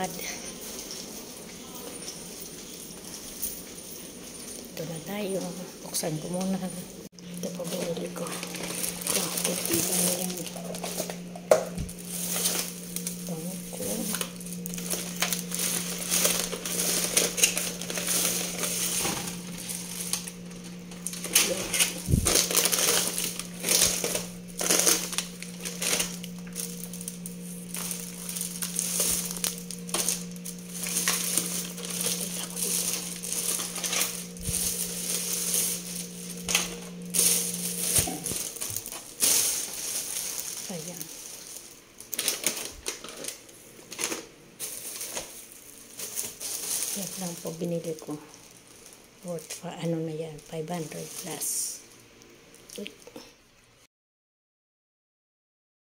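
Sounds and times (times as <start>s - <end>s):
plastic bags rustling: 0.0s - 53.2s
steady low hum: 0.0s - 53.7s.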